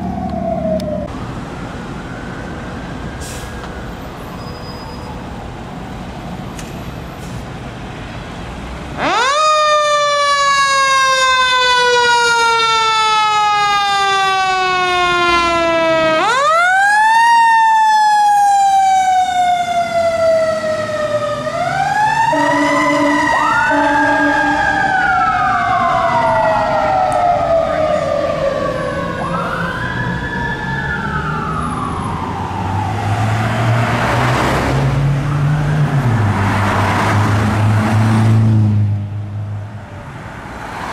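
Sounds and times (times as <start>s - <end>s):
fire engine siren: 0.0s - 6.4s, 8.9s - 40.9s
engine and road noise: 0.0s - 40.9s.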